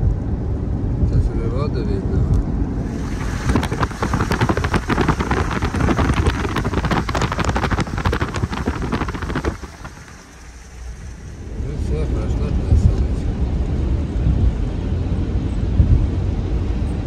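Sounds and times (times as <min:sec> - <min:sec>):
car road noise: 0:00.0 - 0:17.0
wind buffeting through car window: 0:00.0 - 0:17.0.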